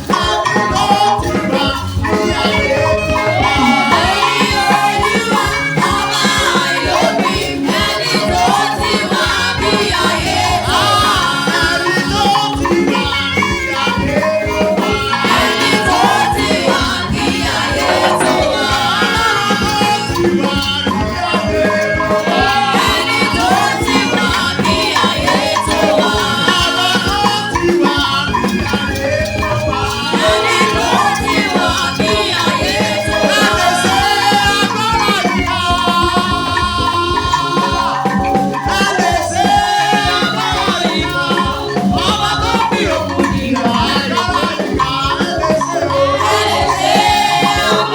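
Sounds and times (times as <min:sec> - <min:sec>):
drums: 0:00.0 - 0:47.9
people singing: 0:00.0 - 0:47.9
shaker rattle: 0:00.0 - 0:47.9
upbeat praise music: 0:00.0 - 0:47.9.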